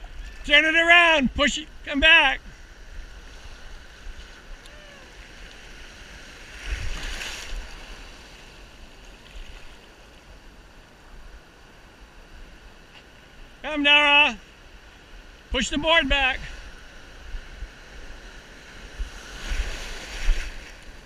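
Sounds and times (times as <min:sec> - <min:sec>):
ocean surf sloshing: 0:00.0 - 0:21.0.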